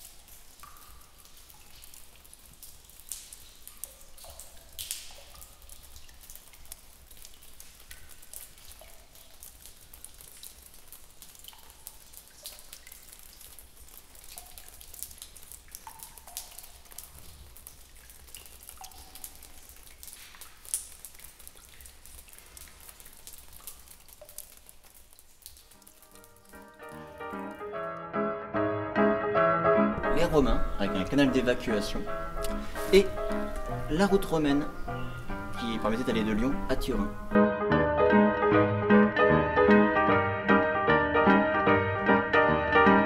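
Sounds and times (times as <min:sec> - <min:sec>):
water dripping in a cave: 0:00.0 - 0:27.8, 0:30.0 - 0:37.4.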